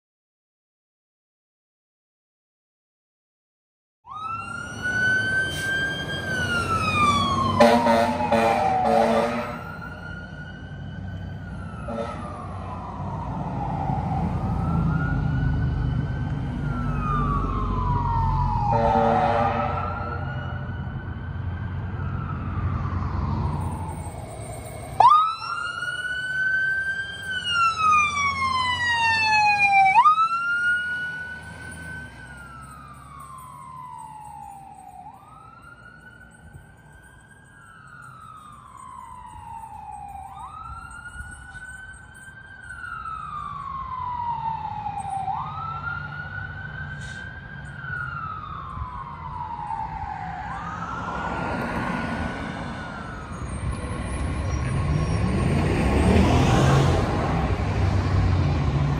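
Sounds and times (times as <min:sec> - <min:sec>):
siren wailing: 0:04.1 - 0:58.9.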